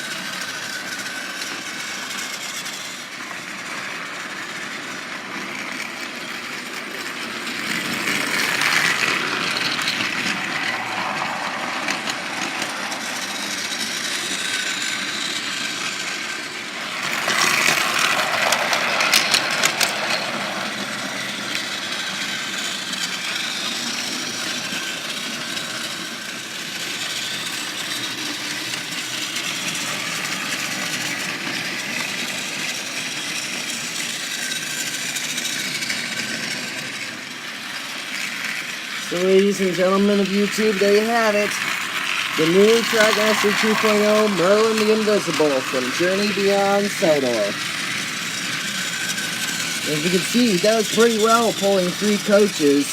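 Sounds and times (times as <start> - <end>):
toy train motor whirring: 0.0 - 52.9
wheels rattling over plastic track: 0.0 - 52.9.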